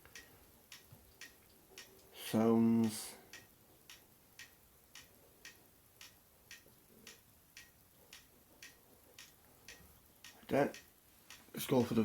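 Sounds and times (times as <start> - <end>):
faint even ticking: 0.0 - 12.0.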